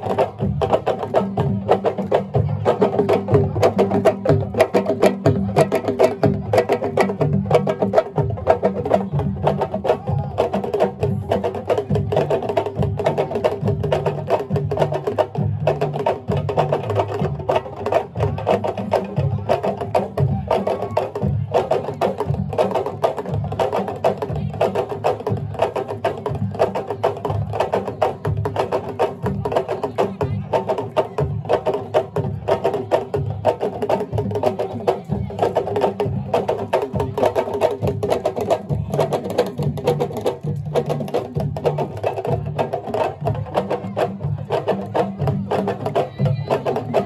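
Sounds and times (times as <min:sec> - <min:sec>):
traditional drumming: 0:00.0 - 0:47.0
voices: 0:00.0 - 0:47.0.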